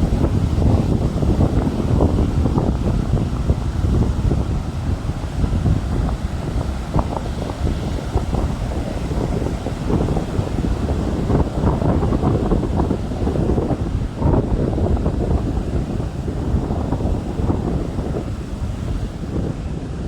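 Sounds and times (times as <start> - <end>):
sea surf: 0.0 - 20.0
wind buffeting microphone: 0.0 - 20.0.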